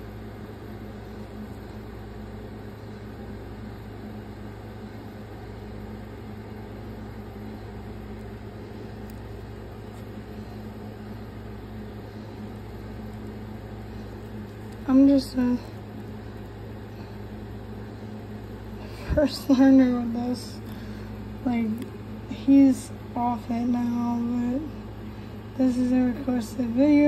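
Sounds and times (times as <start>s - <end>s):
mechanical hum with hiss: 0.0s - 27.0s.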